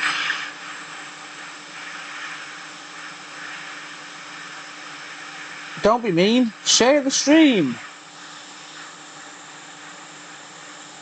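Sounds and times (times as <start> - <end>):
faint steady hum: 0.0 - 11.0
hot air station blowing hiss: 0.0 - 11.0.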